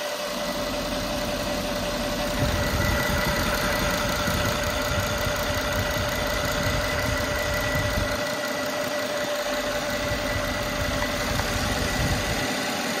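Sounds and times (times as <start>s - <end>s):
car engine idling: 0.0s - 13.0s
high engine whine: 0.0s - 13.0s.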